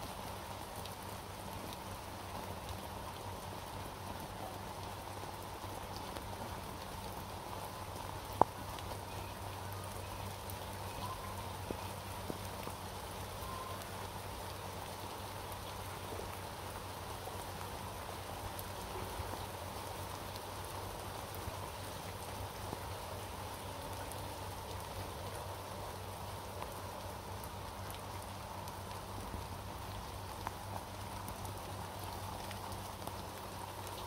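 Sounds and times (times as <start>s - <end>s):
steady rain hiss: 0.0s - 34.0s
raindrops ticking: 0.3s - 34.0s.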